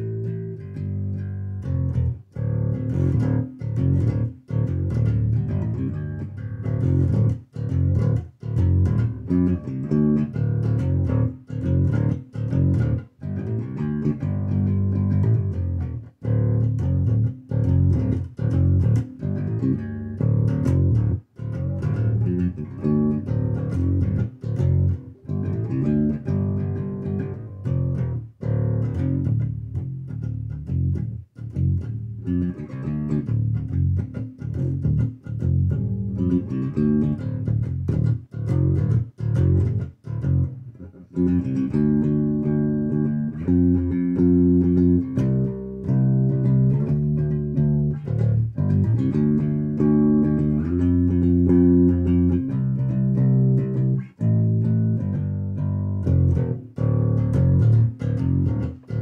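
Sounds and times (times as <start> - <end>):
electric bass guitar riff: 0.0 - 59.0.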